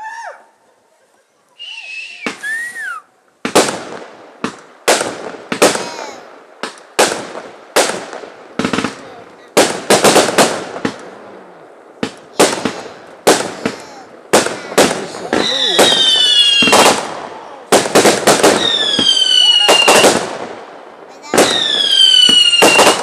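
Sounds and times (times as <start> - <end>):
fireworks bangs: 1.9 - 23.0.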